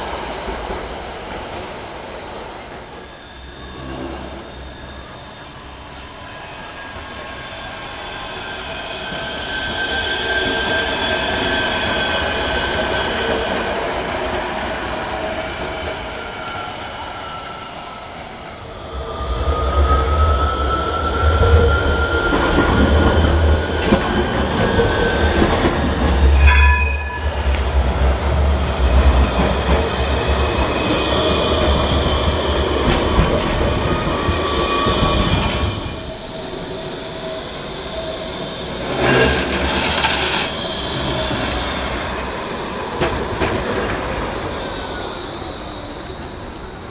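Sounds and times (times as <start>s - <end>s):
tram motor whine: 0.0s - 46.9s
wheels rumbling on rail: 0.0s - 46.9s.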